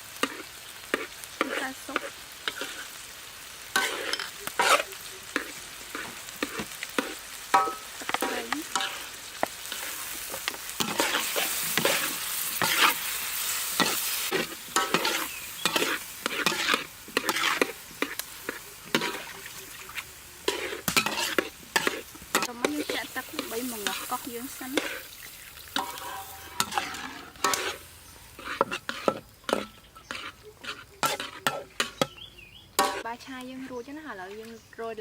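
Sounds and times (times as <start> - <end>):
food sizzling: 0.0 - 35.0
spatula scraping a pan: 0.2 - 34.0.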